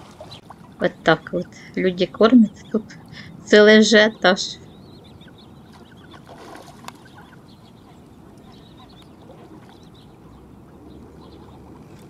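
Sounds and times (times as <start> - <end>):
distant duck calls: 0.0 - 11.6
low pond background: 0.0 - 12.0.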